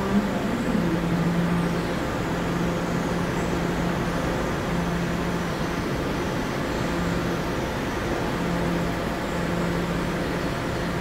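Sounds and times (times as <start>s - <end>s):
subway train equipment hum: 0.0s - 11.0s.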